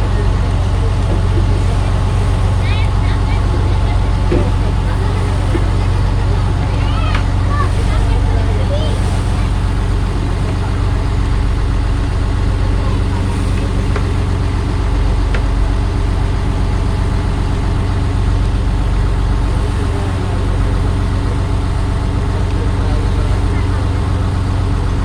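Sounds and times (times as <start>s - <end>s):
low engine drone: 0.0s - 25.0s.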